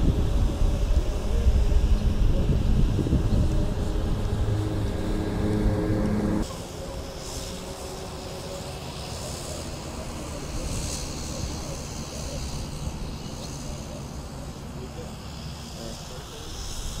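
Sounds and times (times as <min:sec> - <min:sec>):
model airplane motor drone: 0:00.0 - 0:17.0.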